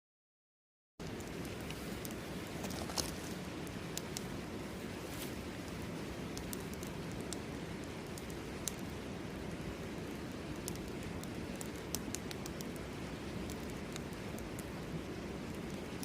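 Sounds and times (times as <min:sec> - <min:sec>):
campfire crackling and popping: 0:01.0 - 0:16.0
river flowing: 0:01.0 - 0:16.0.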